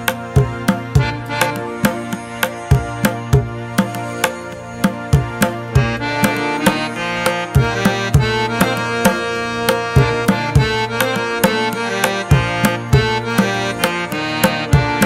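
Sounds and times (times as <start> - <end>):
drum steady beat: 0.0 - 15.0
sustained melodic tones: 0.0 - 15.0.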